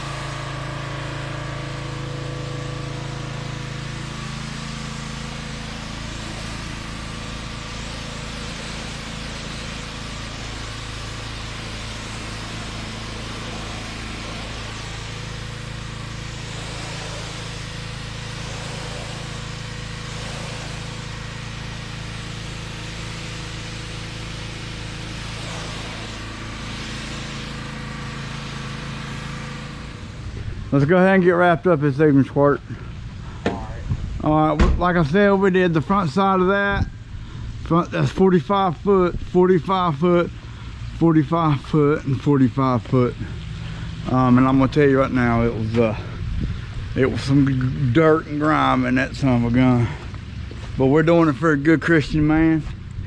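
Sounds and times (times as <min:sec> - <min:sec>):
engine humming steadily: 0:00.0 - 0:53.0.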